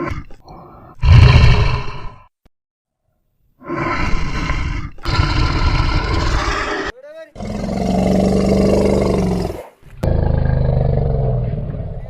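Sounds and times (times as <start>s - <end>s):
big cat roaring: 0.0s - 2.2s, 3.6s - 12.0s.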